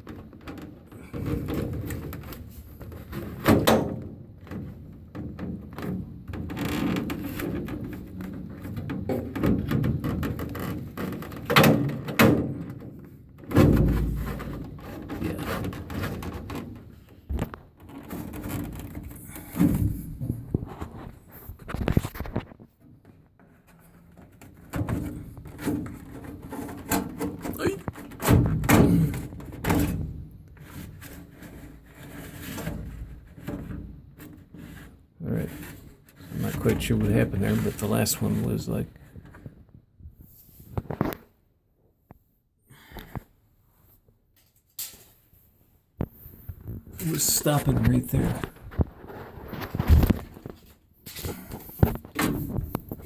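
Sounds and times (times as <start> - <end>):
air filter rustling and scraping: 0.0 - 41.4, 44.8 - 53.0.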